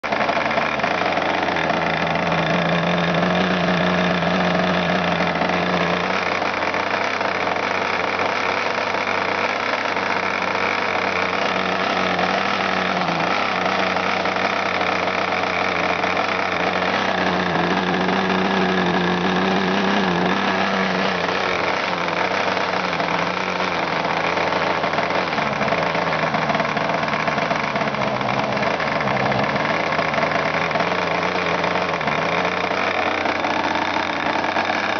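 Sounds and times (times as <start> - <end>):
model aircraft engine running: 0.0 - 34.9.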